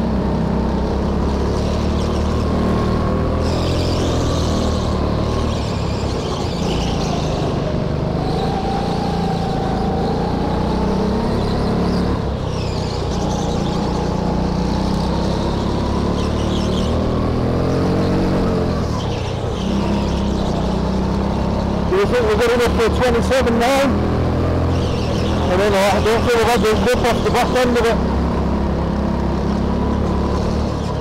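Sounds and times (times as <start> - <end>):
go-kart engine racing: 0.0 - 31.0.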